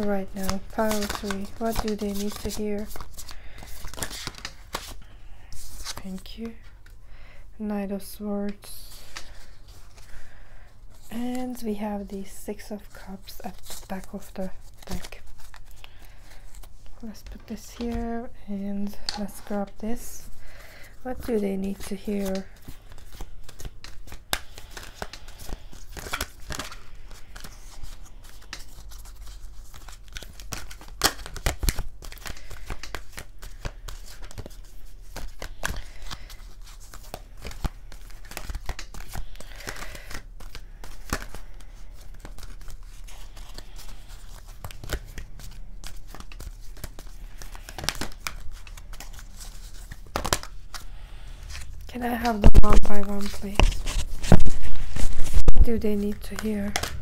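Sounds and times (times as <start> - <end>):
cards being shuffled: 0.0 - 7.0, 10.9 - 57.0.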